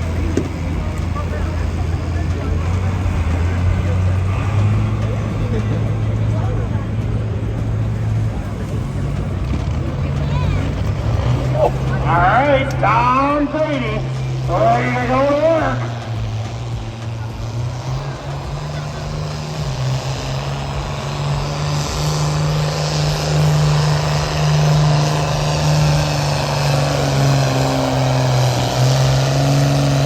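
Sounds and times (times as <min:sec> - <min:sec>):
engine running hard under load: 0:00.0 - 0:30.0.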